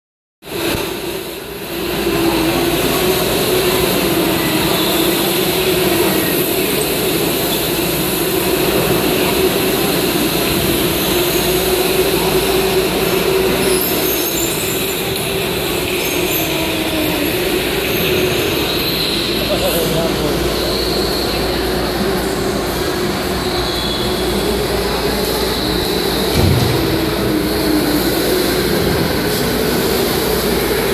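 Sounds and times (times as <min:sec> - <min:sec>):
electric go-karts whirring: 0:00.5 - 0:30.9.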